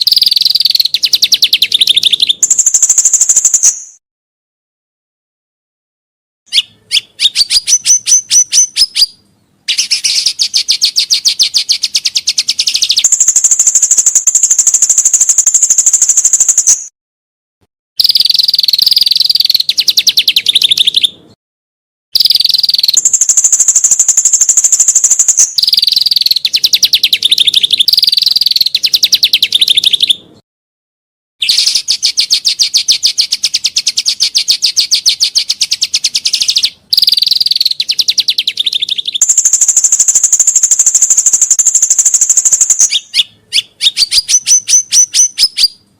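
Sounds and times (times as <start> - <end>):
songbird trilling: 0.0 - 4.0, 6.5 - 16.9, 18.0 - 21.2, 22.2 - 30.2, 31.4 - 45.8.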